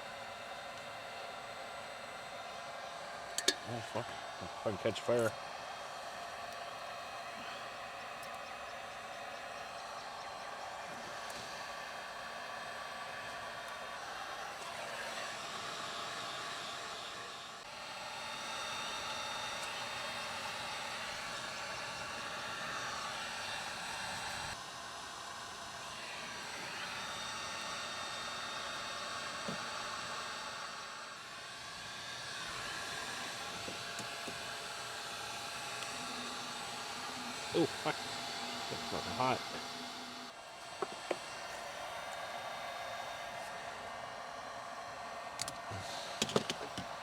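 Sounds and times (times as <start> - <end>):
heat gun blowing air: 0.0 - 47.0.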